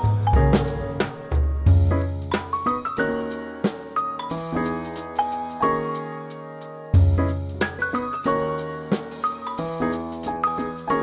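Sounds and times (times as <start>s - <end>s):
keyboard background music: 0.0s - 11.0s.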